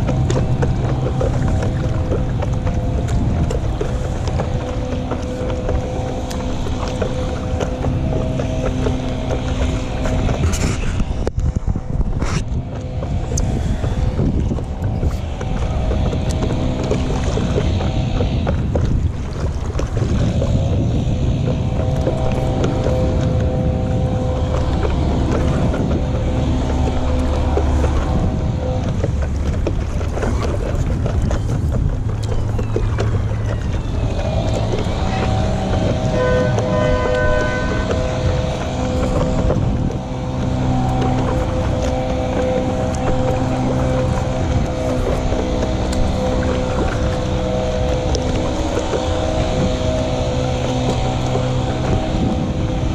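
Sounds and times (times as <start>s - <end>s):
paddle splashing in water: 0.0s - 52.9s
wind buffeting microphone: 0.0s - 52.9s.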